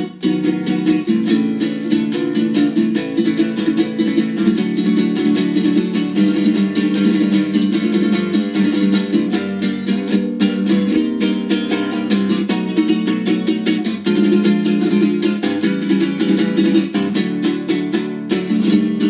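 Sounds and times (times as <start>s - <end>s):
plucked and strummed string trio: 0.0s - 19.0s.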